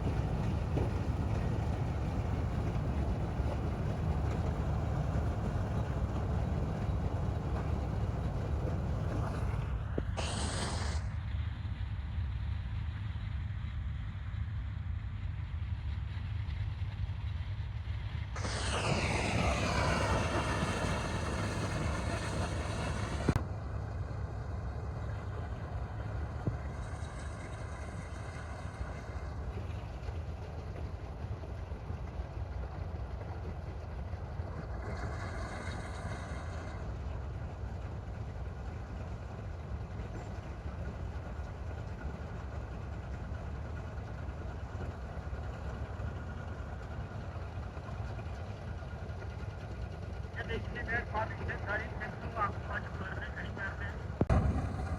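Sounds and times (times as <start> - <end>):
harvester engine running: 0.0 - 11.7, 16.4 - 54.9.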